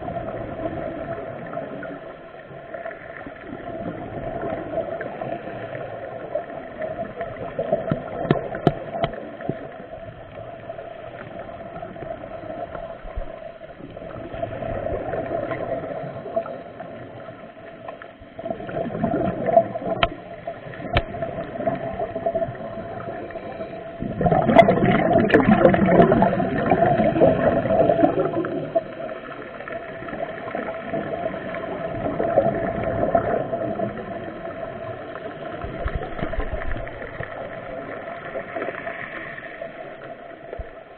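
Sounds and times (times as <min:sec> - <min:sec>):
gurgling bubbles underwater: 0:00.0 - 0:40.9
steady underwater hum: 0:00.0 - 0:40.9.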